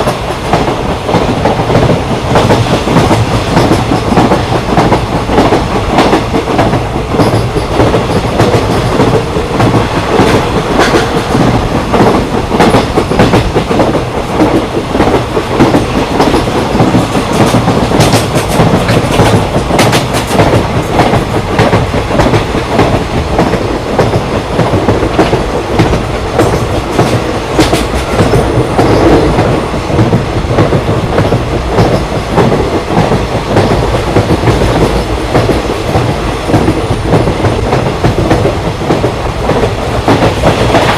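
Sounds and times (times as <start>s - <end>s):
train coaches rumbling and rattling: 0.0s - 40.9s.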